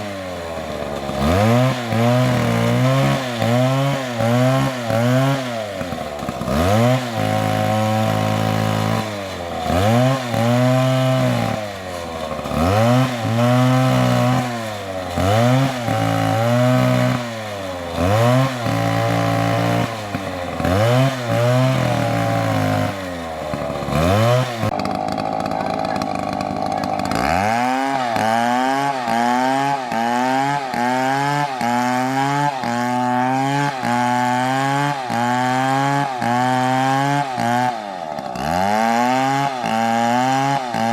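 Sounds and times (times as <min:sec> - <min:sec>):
chainsaw engine surging: 0:00.0 - 0:40.9.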